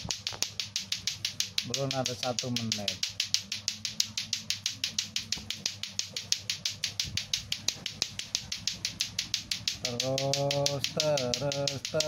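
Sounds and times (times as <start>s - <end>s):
clacker balls clacking: 0.0s - 12.0s.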